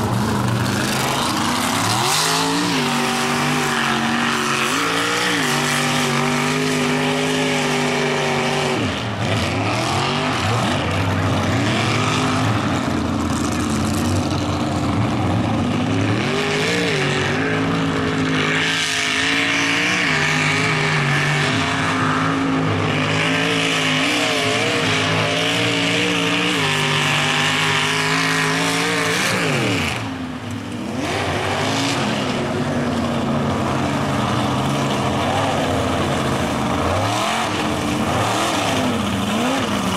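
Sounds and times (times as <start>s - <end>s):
truck engine revving high: 0.0s - 39.9s.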